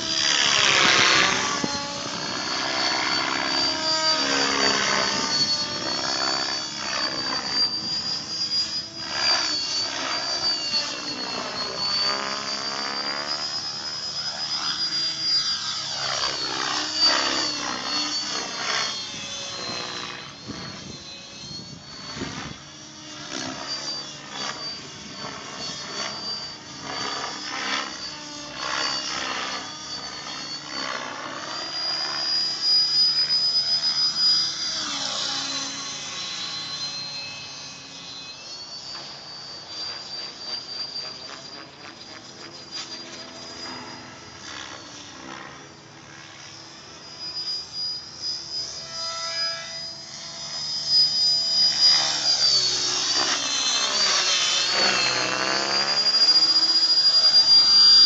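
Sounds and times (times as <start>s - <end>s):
rc helicopter motor whine: 0.0s - 58.0s.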